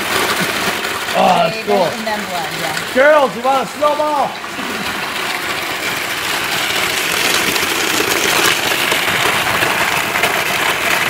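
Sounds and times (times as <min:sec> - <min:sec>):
ice shaving machine grinding: 0:00.0 - 0:11.0.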